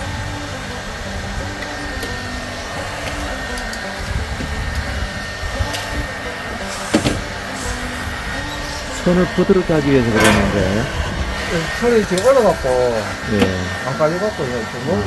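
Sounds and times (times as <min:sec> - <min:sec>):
heat gun fan blowing: 0:00.0 - 0:15.0.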